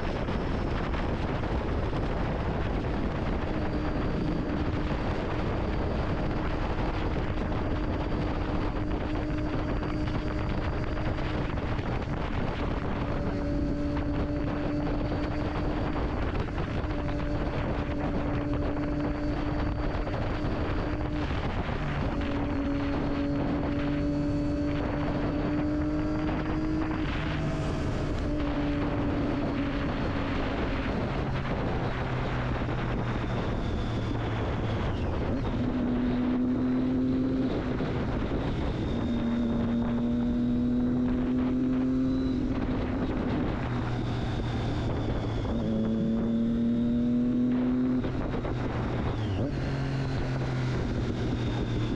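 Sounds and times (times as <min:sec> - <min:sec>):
motorcycle engine cruising: 0:00.0 - 0:51.9
wind rushing: 0:00.0 - 0:51.9.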